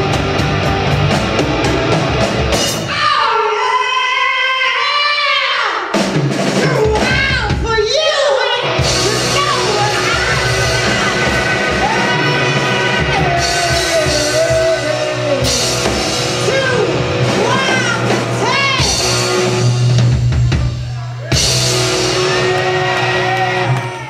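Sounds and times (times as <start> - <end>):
live rock band playing: 0.0 - 3.2, 5.9 - 24.0.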